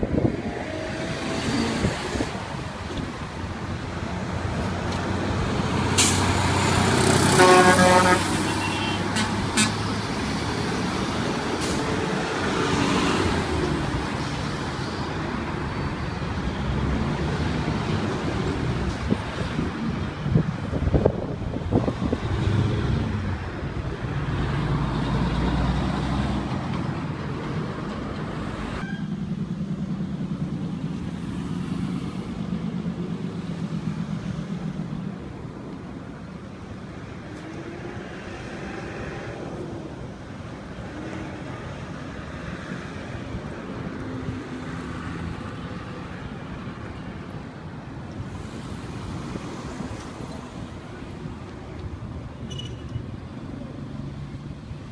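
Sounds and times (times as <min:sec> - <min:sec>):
lorry diesel engine humming: 0:00.0 - 0:52.4
cars passing on road: 0:00.0 - 0:54.9.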